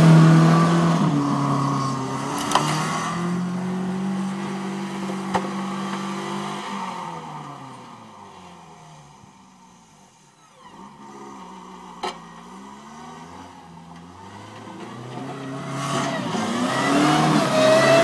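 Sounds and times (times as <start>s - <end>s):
snow plow engine revving: 0.0s - 9.9s, 10.5s - 18.0s
plow blade pushing snow: 0.0s - 18.0s.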